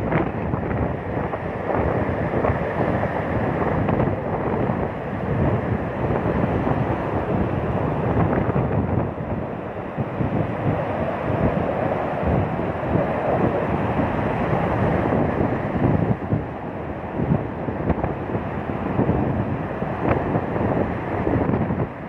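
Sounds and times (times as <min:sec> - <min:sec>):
rough sea surf rushing: 0:00.0 - 0:22.0
wind buffeting microphone: 0:00.0 - 0:22.0.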